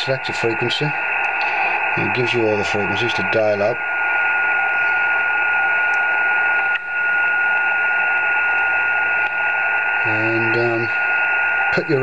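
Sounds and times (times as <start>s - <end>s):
radio band hiss: 0.0s - 12.0s.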